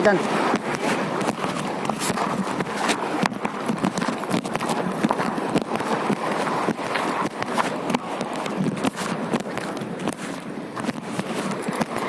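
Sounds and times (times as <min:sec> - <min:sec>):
footsteps on rough ground: 0:00.0 - 0:12.0.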